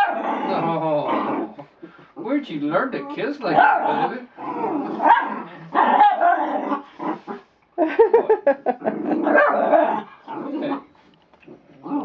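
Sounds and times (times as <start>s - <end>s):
puppies barking and growling: 0.0s - 12.0s.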